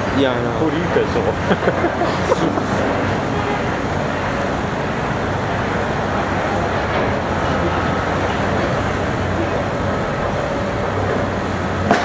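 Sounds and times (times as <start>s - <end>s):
excavator diesel engine drone: 0.0s - 12.0s.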